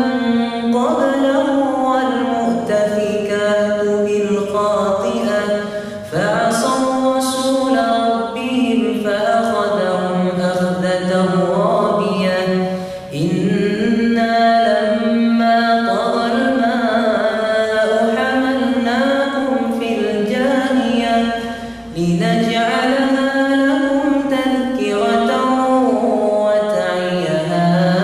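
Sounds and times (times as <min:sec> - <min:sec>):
man chanting a recitation: 0:00.0 - 0:28.0.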